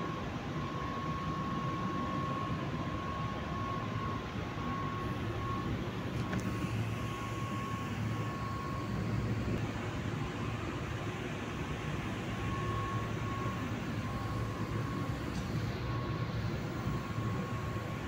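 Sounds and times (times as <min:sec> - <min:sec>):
thin steady whistle: 0:00.1 - 0:09.0, 0:12.4 - 0:18.0.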